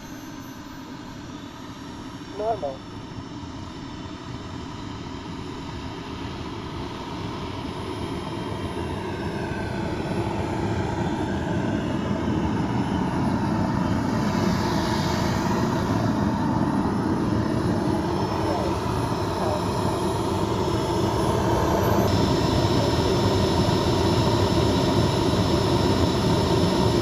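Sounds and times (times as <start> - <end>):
model jet engine whine: 0.0 - 27.0.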